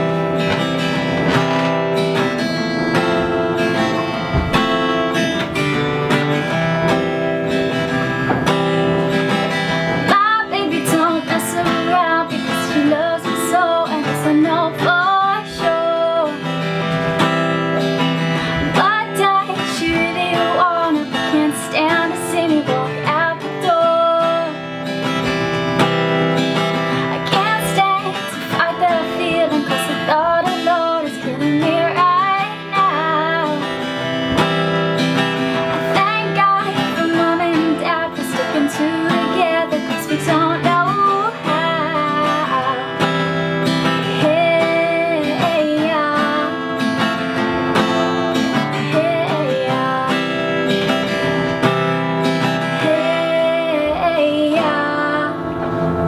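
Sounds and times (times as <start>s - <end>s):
acoustic guitar strumming: 0.0s - 56.0s
woman singing: 7.8s - 25.4s, 26.6s - 55.9s.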